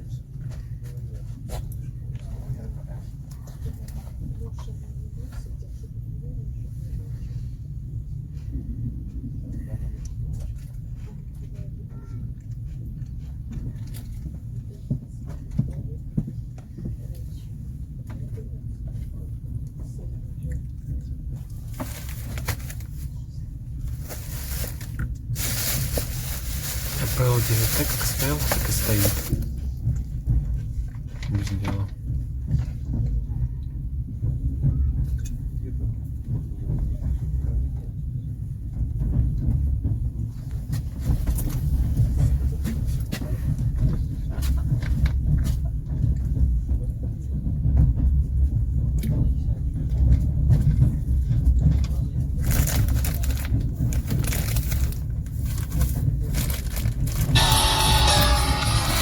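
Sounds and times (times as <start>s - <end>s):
train carriage rumble: 0.0s - 59.0s.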